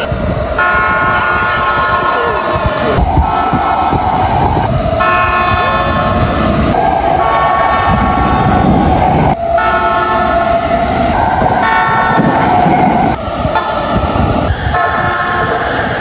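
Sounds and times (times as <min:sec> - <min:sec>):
train horns blasting: 0:00.0 - 0:16.0
train rumble: 0:00.0 - 0:16.0.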